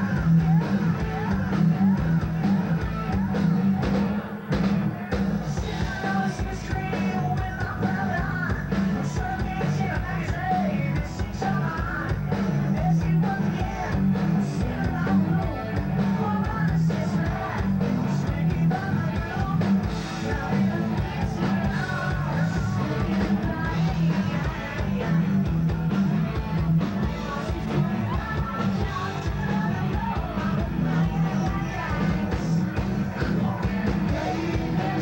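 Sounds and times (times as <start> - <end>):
drums: 0.0 - 35.0
electric guitar: 0.0 - 35.0.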